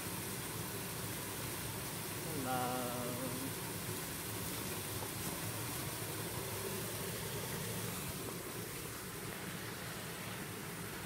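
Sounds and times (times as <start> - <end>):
rain falling: 0.0 - 11.0
river water rushing: 0.0 - 11.0.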